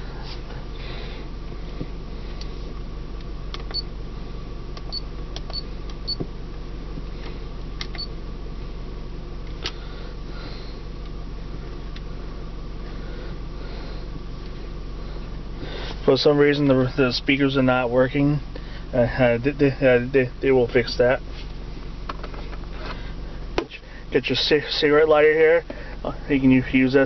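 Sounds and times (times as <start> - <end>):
low hum in car cabin: 0.0 - 27.0.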